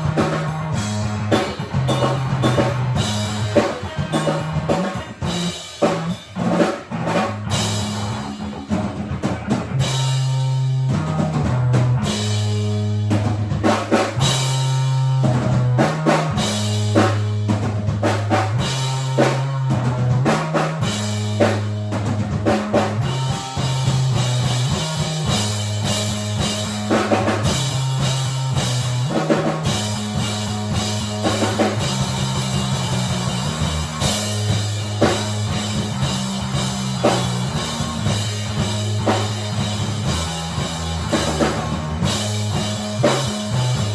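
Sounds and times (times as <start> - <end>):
bass line: 0.0 - 43.9
drum kit beat: 0.0 - 43.9.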